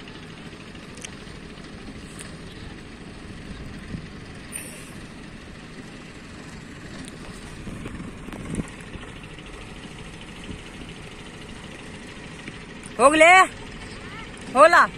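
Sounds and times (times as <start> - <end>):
distant tractor engine rumble: 0.0 - 14.9.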